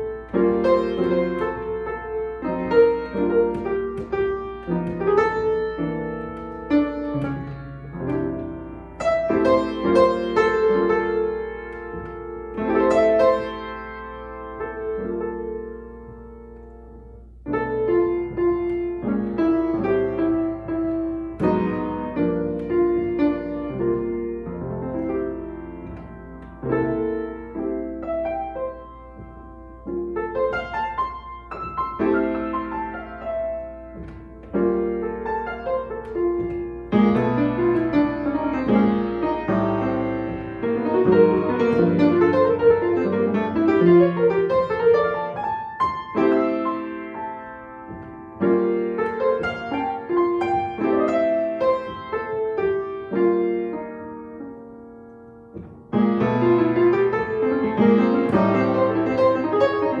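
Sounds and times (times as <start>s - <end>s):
piano christmas arrangement: 0.0s - 60.0s.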